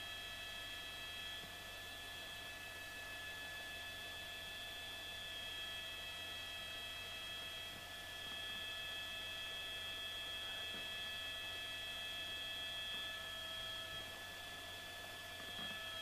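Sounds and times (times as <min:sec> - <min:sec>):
steady high-toned hum: 0:00.0 - 0:16.0.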